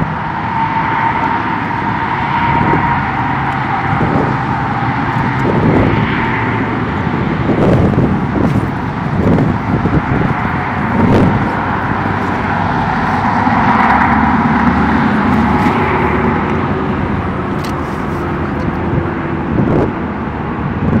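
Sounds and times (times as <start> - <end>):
road traffic noise: 0.0 - 21.0
vehicle passing by: 0.0 - 21.0.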